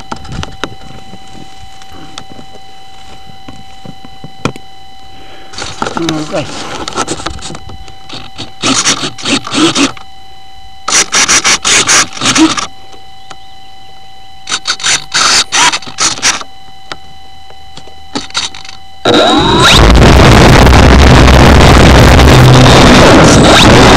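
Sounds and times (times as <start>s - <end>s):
faint high whine: 0.0s - 23.9s.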